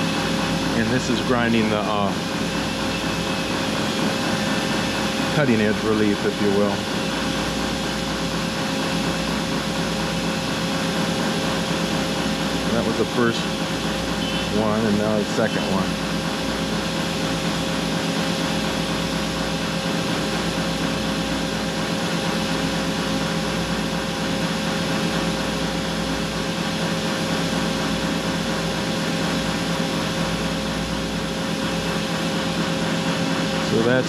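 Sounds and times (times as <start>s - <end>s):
grinding wheel whirring and whining: 0.0s - 34.0s.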